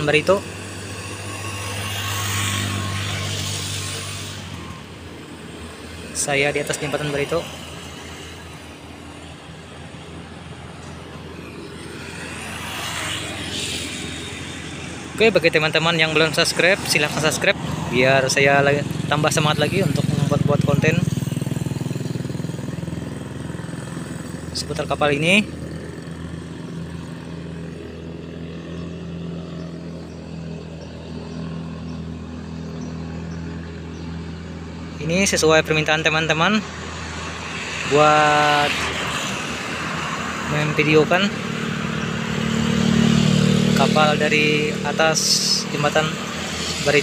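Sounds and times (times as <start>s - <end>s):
traffic hum and rush: 0.0s - 47.0s.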